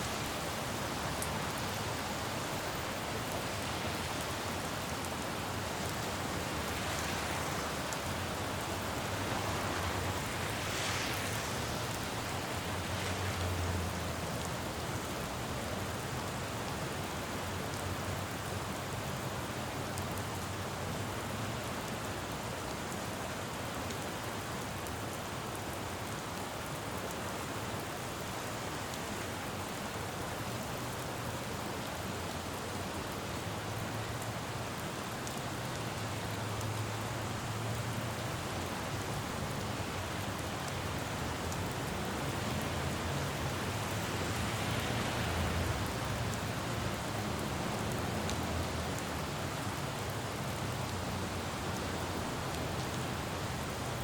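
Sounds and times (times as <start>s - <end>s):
low rumble of traffic: 0.0s - 54.0s
rain falling on a road: 0.0s - 54.0s.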